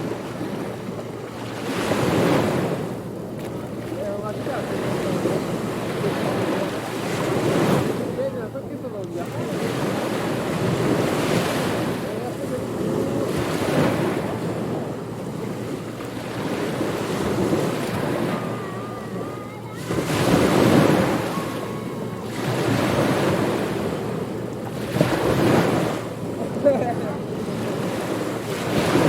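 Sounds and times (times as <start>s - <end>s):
ocean surf washing in: 0.0s - 29.0s.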